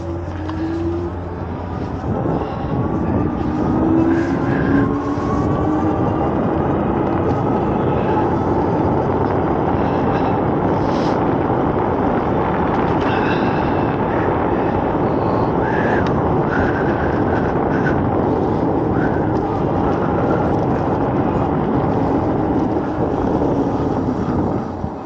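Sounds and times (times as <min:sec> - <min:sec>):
tyre noise on paved road: 0:00.0 - 0:25.0
wind rushing on microphone: 0:00.0 - 0:25.0.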